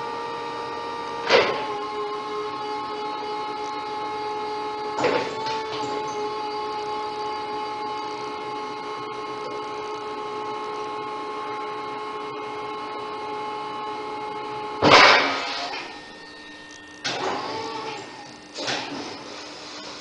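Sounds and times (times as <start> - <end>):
hydraulic pump whine: 0.0 - 20.0.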